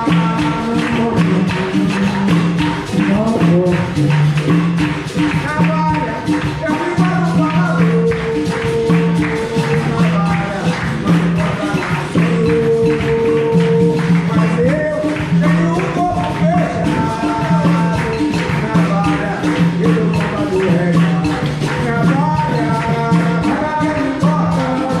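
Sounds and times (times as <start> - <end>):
percussion with jingling strikes: 0.0 - 25.0
person singing: 0.0 - 25.0.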